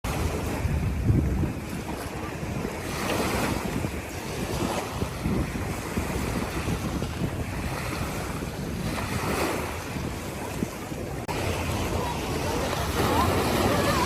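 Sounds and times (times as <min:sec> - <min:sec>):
wind buffeting microphone: 0:00.0 - 0:14.0
waves washing on shore: 0:00.1 - 0:14.0.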